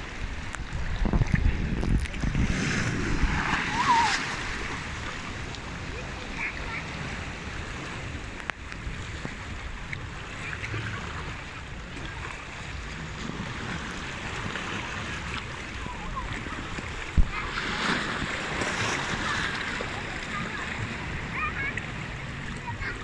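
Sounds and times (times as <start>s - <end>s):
sea waves washing between rocks: 0.0s - 23.0s
water lapping and gurgling: 0.0s - 23.0s
water splashing: 0.0s - 23.0s.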